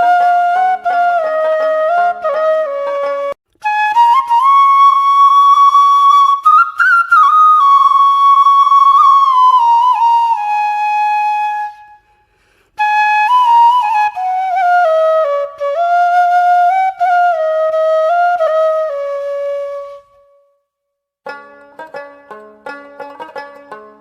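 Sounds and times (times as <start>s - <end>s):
solo flute melody: 0.0s - 20.7s.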